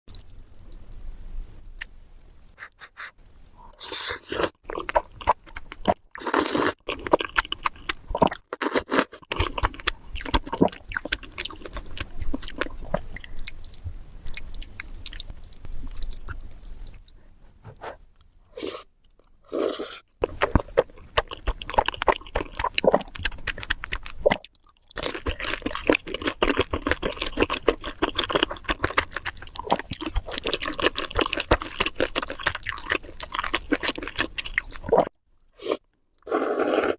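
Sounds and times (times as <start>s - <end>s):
crunching and chewing fried chicken: 3.8s - 17.0s, 19.1s - 36.9s.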